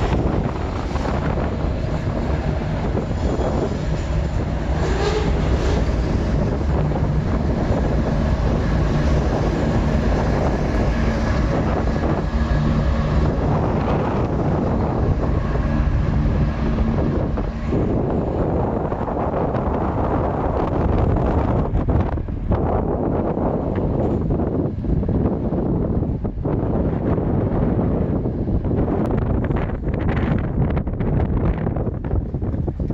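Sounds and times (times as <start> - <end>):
locomotive engines droning: 0.0 - 32.9
train wheels rolling on rail: 0.0 - 32.9
wind buffeting microphone: 0.0 - 32.9.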